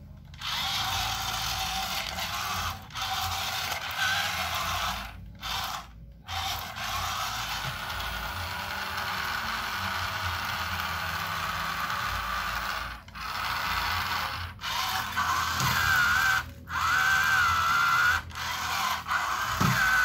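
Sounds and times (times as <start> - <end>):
toy motor whirring: 0.2 - 20.0.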